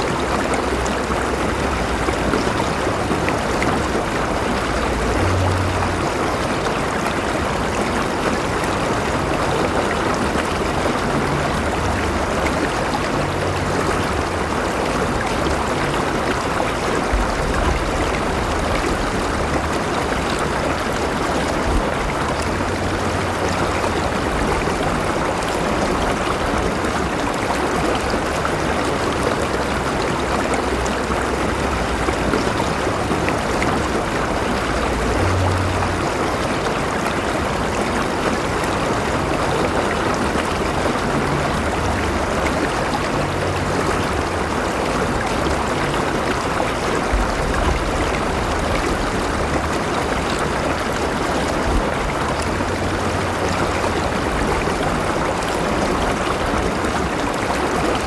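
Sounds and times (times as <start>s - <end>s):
river water flowing over rocks: 0.0s - 58.0s.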